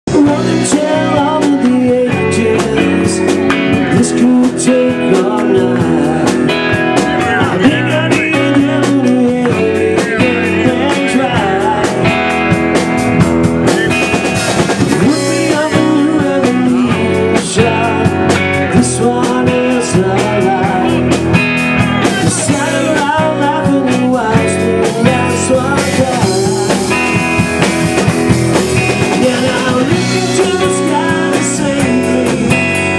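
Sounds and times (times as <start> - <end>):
drum kit beat: 0.1 - 32.9
electric guitar: 0.1 - 32.9
man singing: 0.1 - 32.9.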